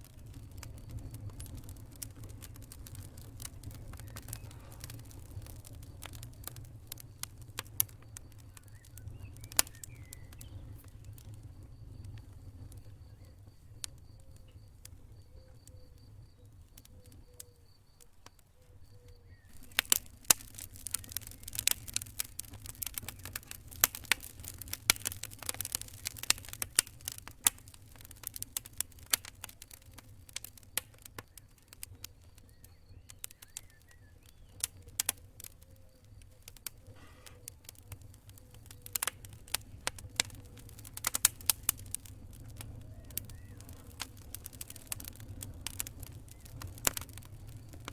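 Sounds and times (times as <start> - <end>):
campfire crackling: 0.0 - 47.9
sharp pops of fire: 0.0 - 47.9.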